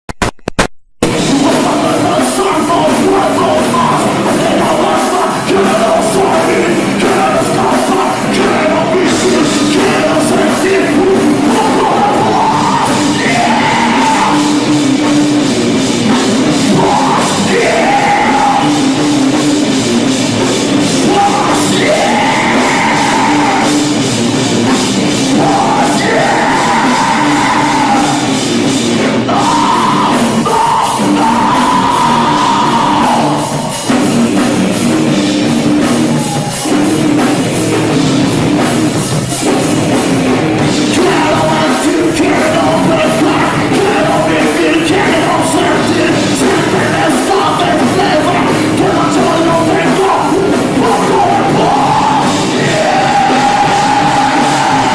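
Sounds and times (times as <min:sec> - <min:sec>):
rock-funk band playing: 0:00.2 - 0:54.9.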